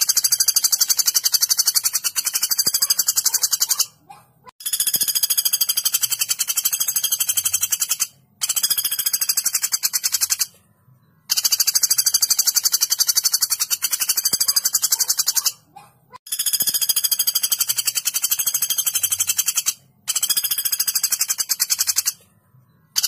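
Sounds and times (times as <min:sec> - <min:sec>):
woodpecker rattling trills: 0:00.0 - 0:10.6, 0:11.3 - 0:22.2.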